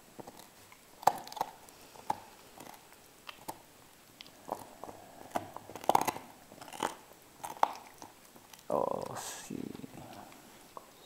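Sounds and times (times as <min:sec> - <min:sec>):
dog gnawing bone: 0:00.0 - 0:10.8.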